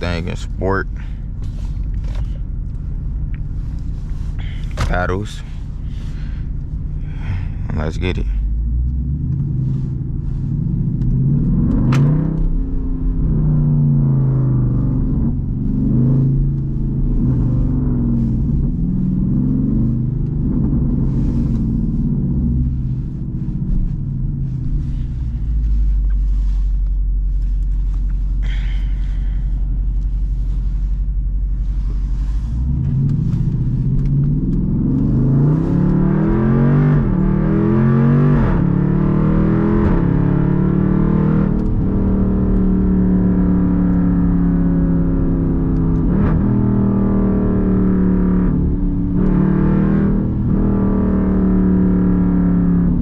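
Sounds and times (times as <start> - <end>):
engine exhaust revving: 0.0 - 53.0.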